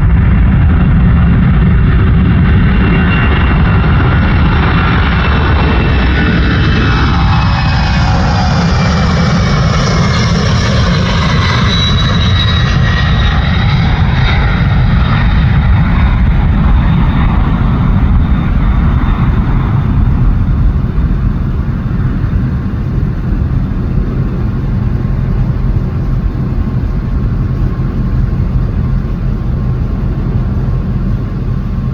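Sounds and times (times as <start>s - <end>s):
jet engines roaring with high whine: 0.0s - 31.9s.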